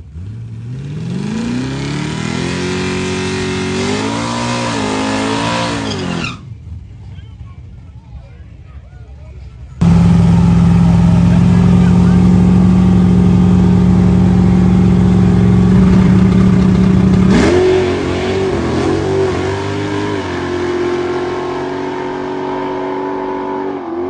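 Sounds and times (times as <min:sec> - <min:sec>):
race car engines at high revs: 0:00.0 - 0:06.4, 0:09.8 - 0:24.0.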